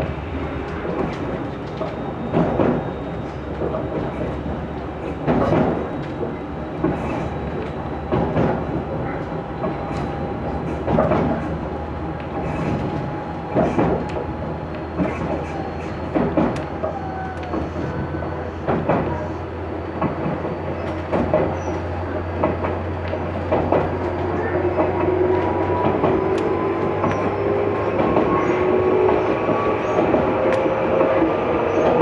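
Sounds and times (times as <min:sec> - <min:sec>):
train rumble inside carriage: 0:00.0 - 0:32.0
wheels clacking over rail joints: 0:00.6 - 0:32.0.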